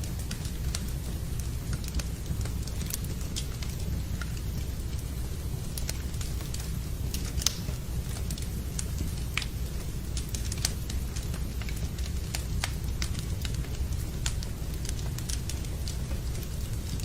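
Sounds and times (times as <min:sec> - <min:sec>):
rain rumble: 0:00.0 - 0:17.0
wood fire crackling and popping: 0:00.0 - 0:17.0.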